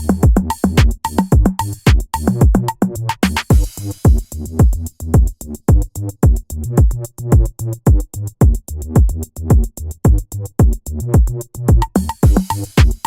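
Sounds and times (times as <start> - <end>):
electronic music with drum beat: 0.0 - 13.0.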